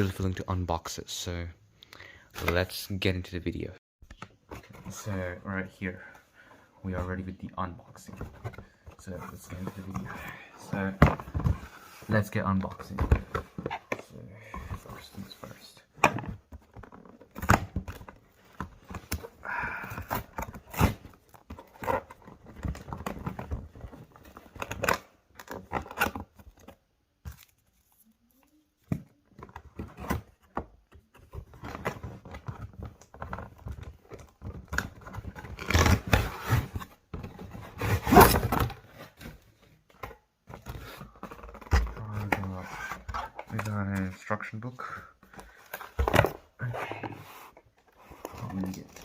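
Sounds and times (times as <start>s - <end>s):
cardboard and plastic packaging rustling: 7.0s - 49.0s.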